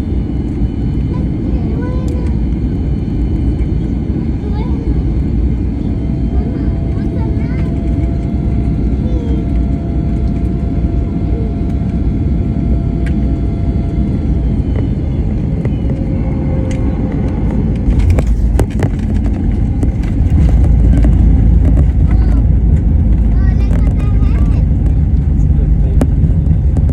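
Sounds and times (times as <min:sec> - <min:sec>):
airliner cabin rumble: 0:00.0 - 0:26.9
thin engine whine: 0:00.0 - 0:26.9.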